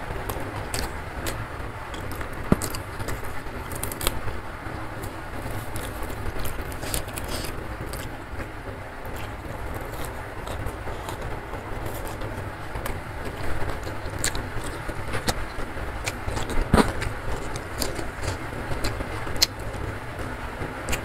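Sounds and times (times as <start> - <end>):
low background rumble: 0.0 - 21.0
person chewing and crunching vegetables: 0.0 - 21.0.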